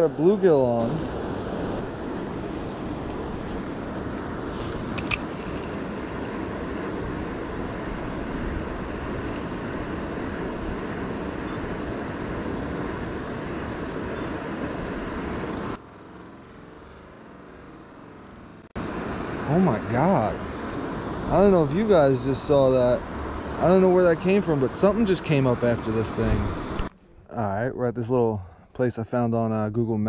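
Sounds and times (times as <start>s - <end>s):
steady outdoor rushing noise: 0.0s - 27.5s.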